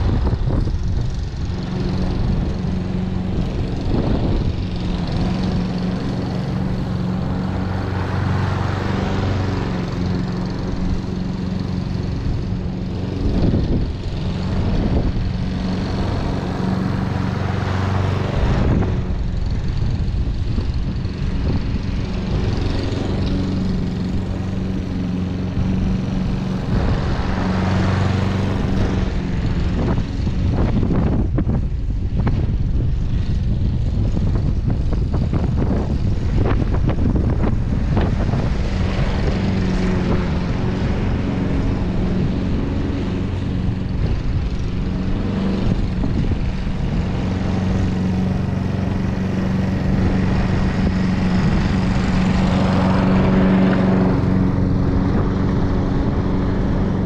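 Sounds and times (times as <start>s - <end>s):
lawn mower cutting grass: 0.0s - 57.0s.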